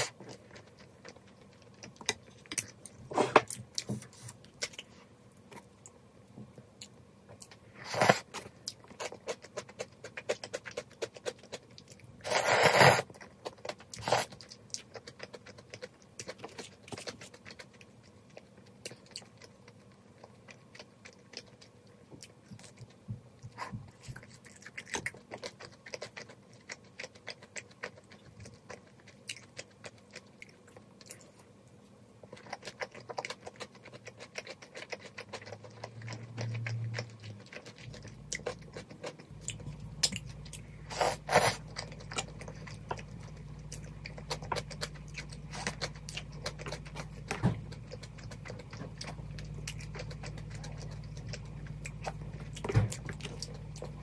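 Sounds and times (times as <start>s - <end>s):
steady low hum: 0.0s - 54.0s
chewing and biting food: 6.8s - 31.6s, 32.2s - 54.0s.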